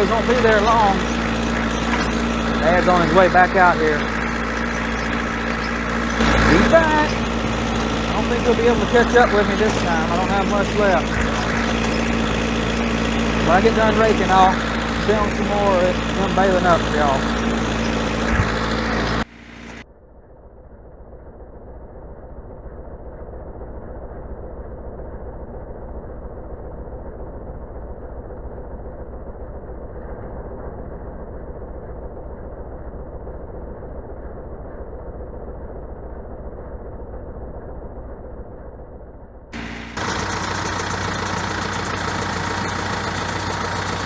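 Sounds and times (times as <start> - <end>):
muffled tractor engine running: 0.0 - 19.8, 28.2 - 44.0.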